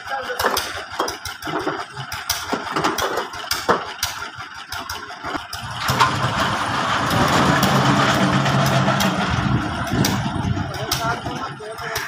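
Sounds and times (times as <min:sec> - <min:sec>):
hoist winch humming: 0:00.1 - 0:12.0.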